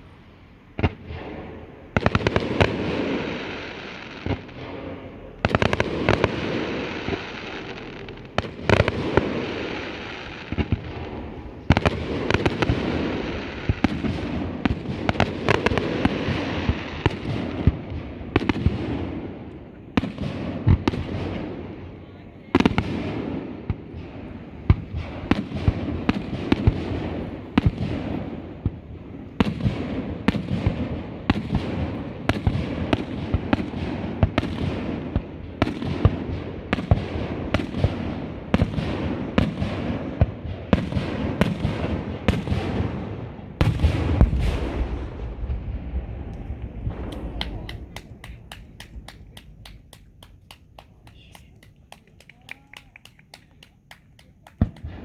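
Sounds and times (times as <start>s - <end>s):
crackling firework pops: 0.7s - 21.8s, 22.6s - 55.0s.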